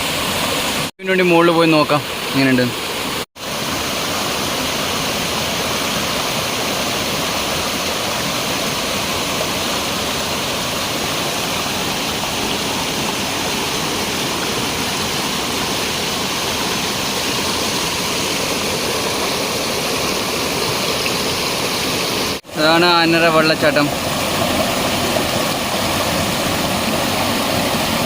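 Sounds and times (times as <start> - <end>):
waterfall rushing and splashing: 0.0 - 28.0.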